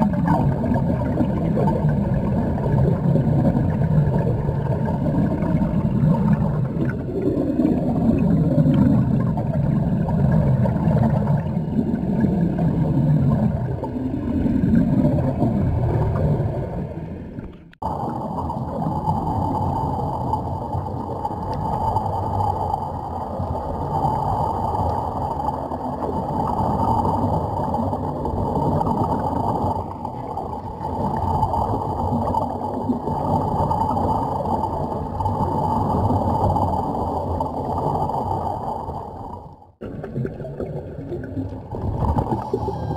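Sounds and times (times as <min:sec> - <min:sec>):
underwater churning rumble: 0:00.0 - 0:42.9.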